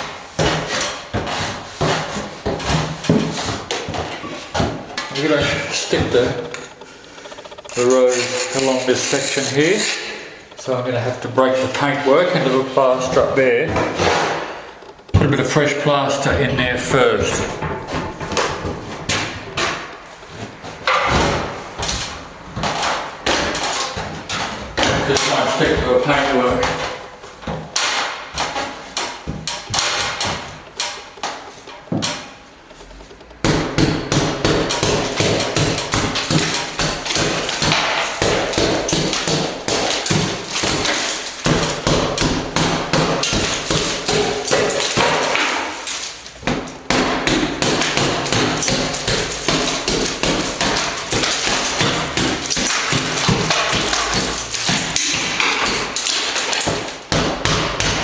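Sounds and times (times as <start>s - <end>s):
hammer striking plaster ceiling: 0.0s - 6.5s, 11.8s - 15.6s, 16.6s - 32.4s, 33.4s - 58.0s.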